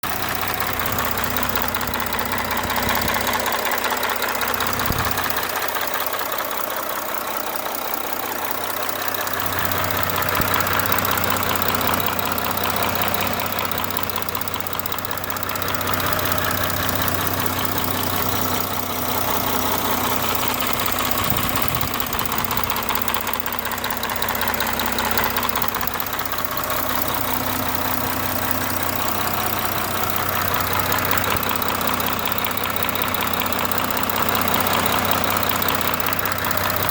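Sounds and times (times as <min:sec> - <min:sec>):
diesel engine idling with ticking: 0:00.0 - 0:36.9.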